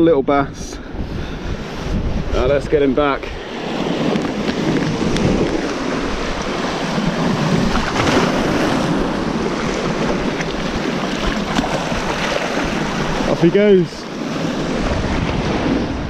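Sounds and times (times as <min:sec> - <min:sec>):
wind buffeting microphone: 0:00.0 - 0:16.0
sea surf washing over rocks: 0:01.5 - 0:16.0.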